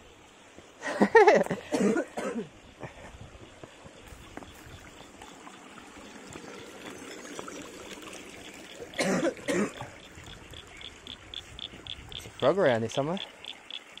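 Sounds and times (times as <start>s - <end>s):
creek water trickling over rocks: 0.0s - 14.0s.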